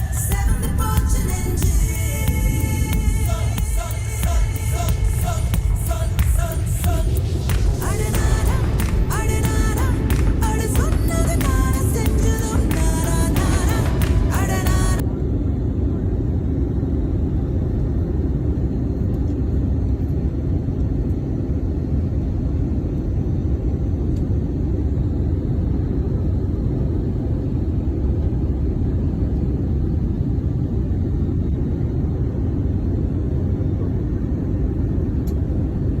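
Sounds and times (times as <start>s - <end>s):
aircraft cabin engine rumble: 0.0s - 36.0s.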